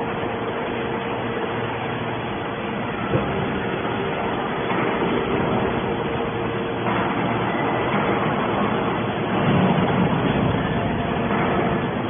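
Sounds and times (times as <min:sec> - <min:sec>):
baler machine hum: 0:00.0 - 0:12.0.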